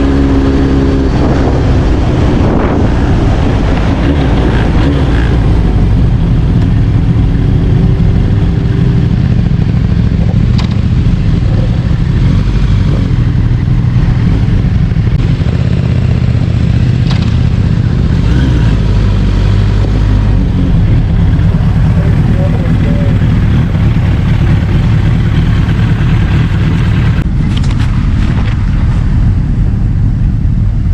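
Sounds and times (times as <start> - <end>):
motorcycle engine rumbling: 0.0 - 30.9.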